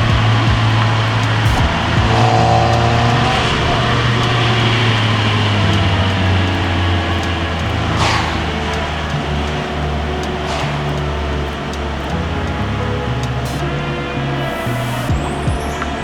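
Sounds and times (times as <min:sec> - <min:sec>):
car engine running: 0:00.0 - 0:15.8
road noise: 0:00.0 - 0:16.0.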